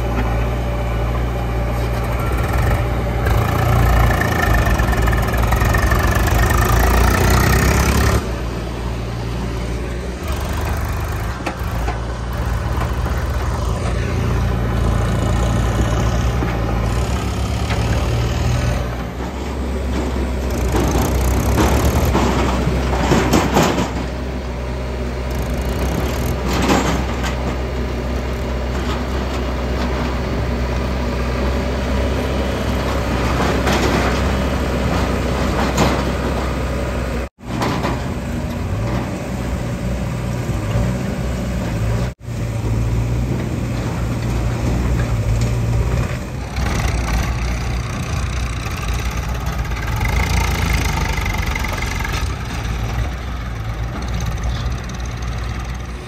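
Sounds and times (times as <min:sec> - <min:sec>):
backhoe loader engine working: 0:00.0 - 0:56.0
diesel tractor engines running: 0:00.0 - 0:56.0.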